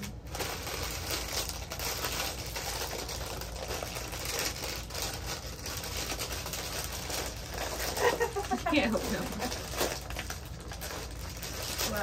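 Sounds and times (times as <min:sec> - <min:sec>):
plastic chip bag crinkling: 0:00.0 - 0:12.0.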